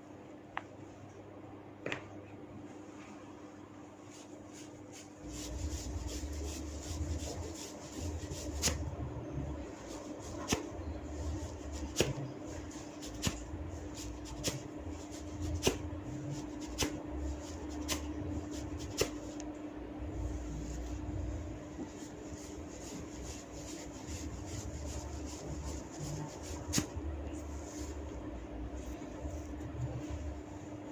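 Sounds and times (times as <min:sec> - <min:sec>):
hands rubbing hair and scalp: 0:03.9 - 0:19.5, 0:20.1 - 0:30.9.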